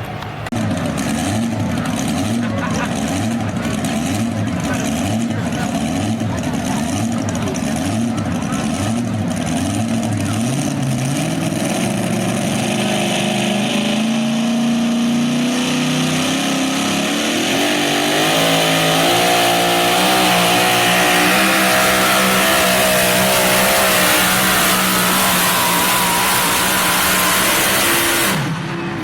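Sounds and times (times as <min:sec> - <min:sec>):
truck engine at high revs: 0:00.0 - 0:29.0.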